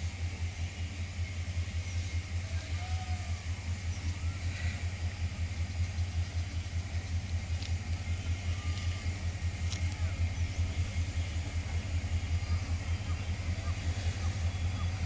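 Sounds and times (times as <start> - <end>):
diesel locomotive engine throbbing: 0.0 - 15.0.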